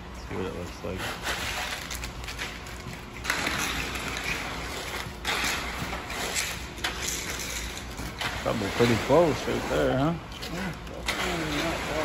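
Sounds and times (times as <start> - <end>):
rake scraping wet concrete: 0.6 - 2.6, 3.2 - 12.0.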